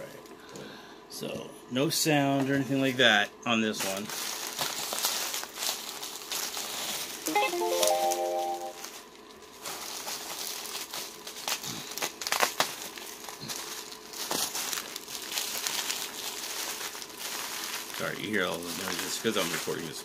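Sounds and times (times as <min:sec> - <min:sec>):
bubble wrap crinkling: 0:03.8 - 0:20.0.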